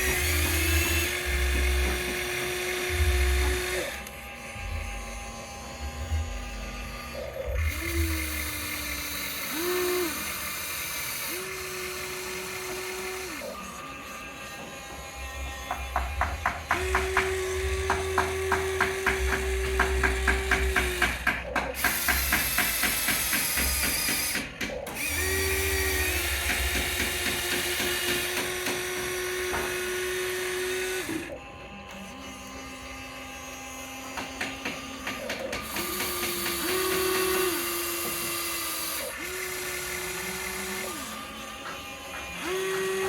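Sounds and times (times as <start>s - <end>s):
small electric motors whining: 0.0s - 43.0s.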